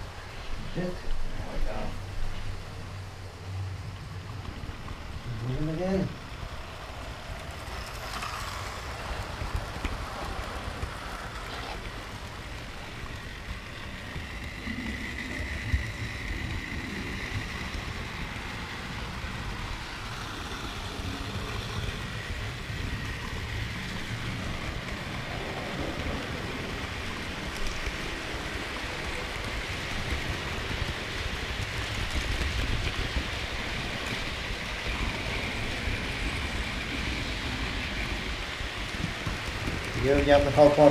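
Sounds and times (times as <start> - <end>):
model train wheels rattling: 3.8 - 40.9.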